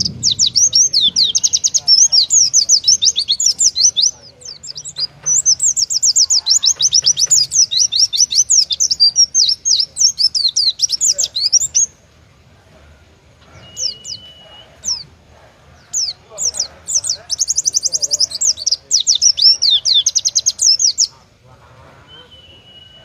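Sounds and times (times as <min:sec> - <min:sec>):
bird singing rapid high notes: 0:00.0 - 0:12.0, 0:13.4 - 0:15.1, 0:15.8 - 0:21.1.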